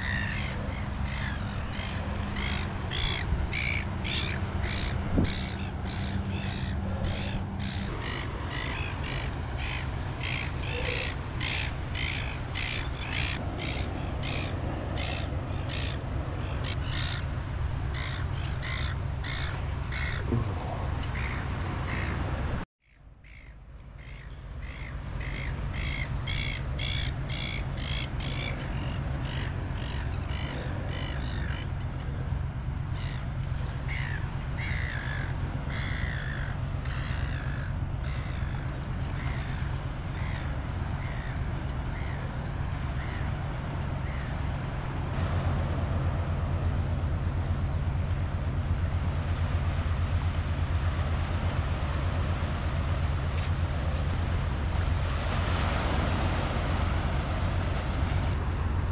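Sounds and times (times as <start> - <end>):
low steady rumble: 0.0 - 58.9.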